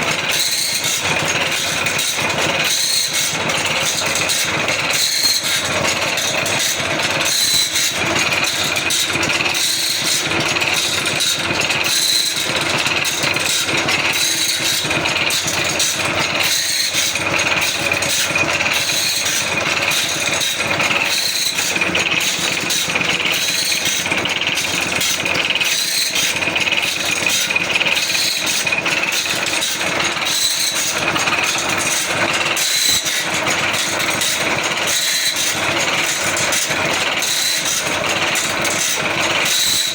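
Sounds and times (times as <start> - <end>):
grinding wheel ticking: 0.0 - 39.9.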